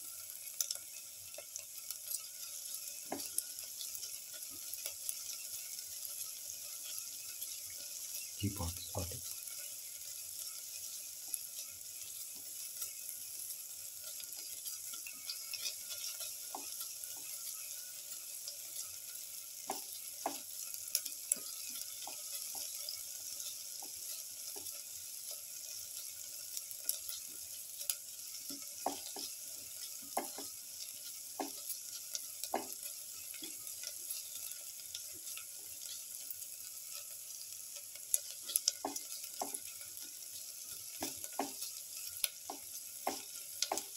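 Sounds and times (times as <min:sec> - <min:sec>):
onions sizzling in oil: 0:00.0 - 0:43.9
spatula scraping and tapping pan: 0:00.5 - 0:08.3, 0:09.5 - 0:43.9.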